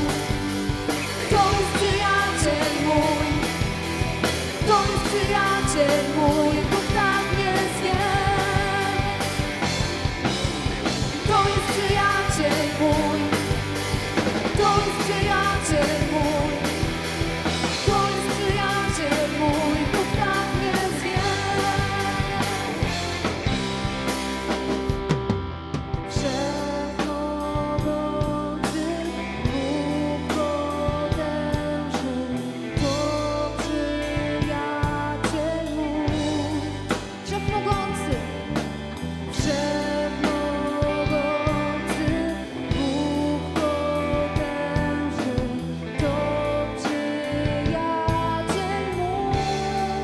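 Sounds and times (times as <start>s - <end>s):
person singing: 0.0s - 23.6s, 26.0s - 50.0s
drum kit: 0.0s - 50.0s
guitar: 0.0s - 50.0s.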